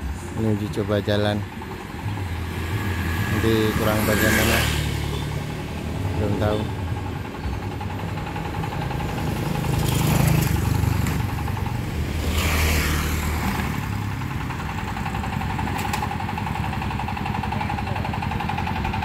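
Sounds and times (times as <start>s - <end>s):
motorcycles passing: 0.0s - 19.0s
steady engine hum: 0.0s - 19.0s.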